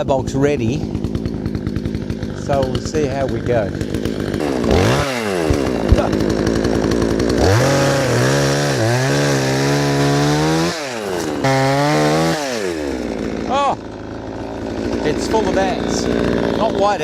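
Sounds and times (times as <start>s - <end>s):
chainsaw cutting tree: 0.0s - 17.0s.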